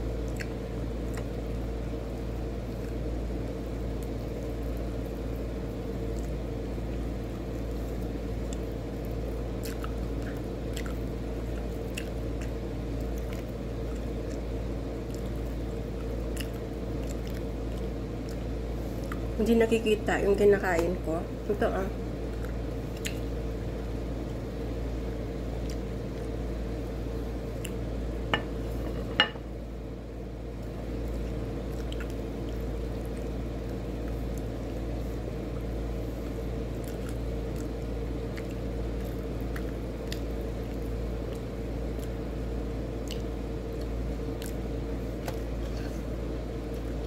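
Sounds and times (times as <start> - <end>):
steady low hum: 0.0 - 47.0
chewing: 0.2 - 19.4, 22.2 - 24.4, 25.5 - 27.9, 30.6 - 47.0.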